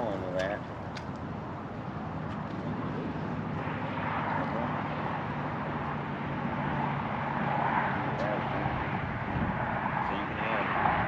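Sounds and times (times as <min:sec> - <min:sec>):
distant engine droning: 0:00.0 - 0:11.0.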